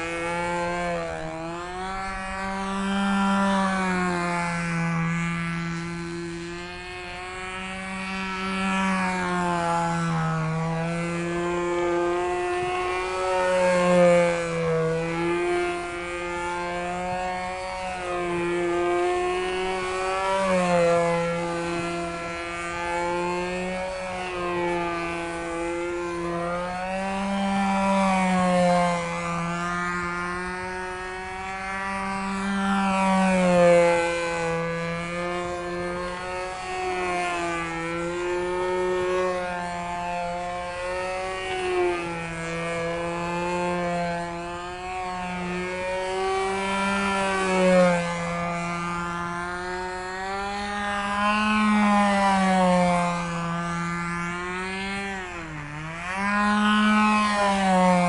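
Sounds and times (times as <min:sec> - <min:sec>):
model plane engine running: 0:00.0 - 0:58.0.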